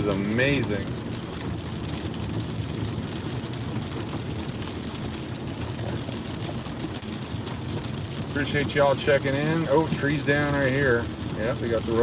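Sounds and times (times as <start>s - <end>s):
engine and road rumble: 0.0s - 12.0s
rain hissing: 0.0s - 12.0s.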